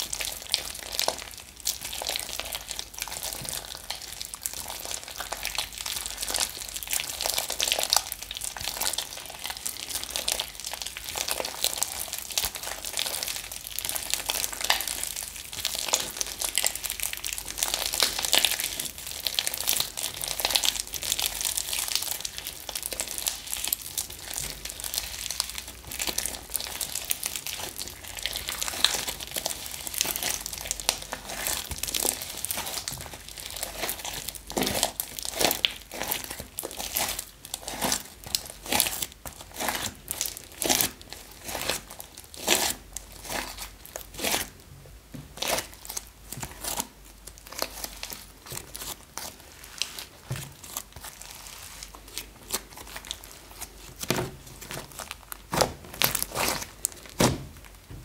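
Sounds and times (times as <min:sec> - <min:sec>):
slime squishing and crackling: 0:00.0 - 0:58.0.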